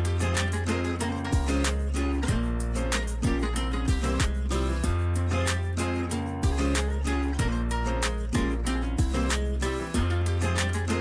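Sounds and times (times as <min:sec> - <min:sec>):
background music with guitar and bass: 0:00.0 - 0:11.0.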